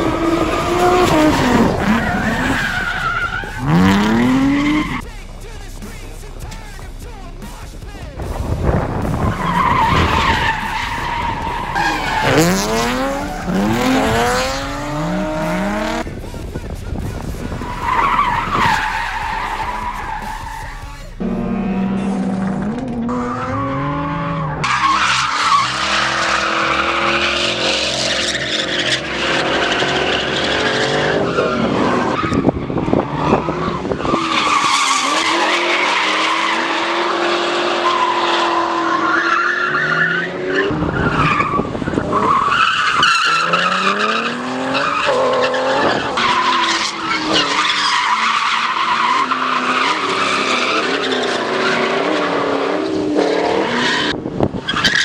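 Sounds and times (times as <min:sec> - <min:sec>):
tyres screeching: 0:00.0 - 0:06.9, 0:08.9 - 0:16.0, 0:17.4 - 0:55.0
car engines revving: 0:00.0 - 0:55.0.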